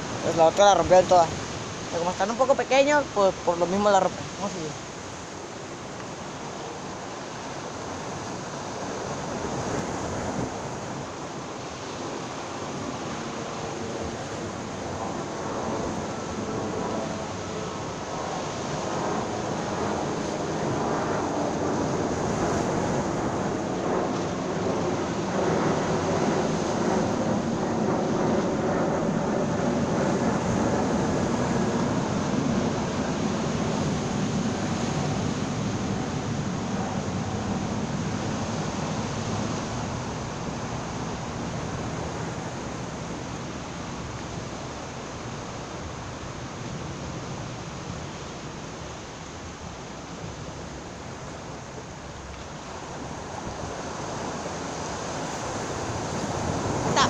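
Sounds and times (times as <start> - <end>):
surf washing against rocks: 0.0 - 57.0
wind on microphone: 0.0 - 57.0.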